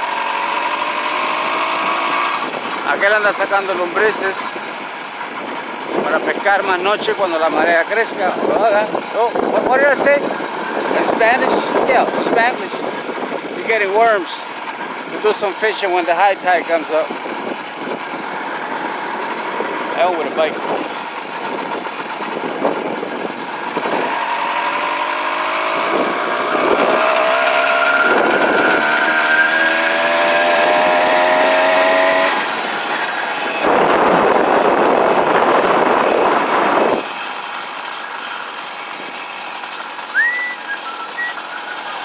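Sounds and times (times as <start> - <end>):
small gasoline engine revving: 0.0 - 42.0.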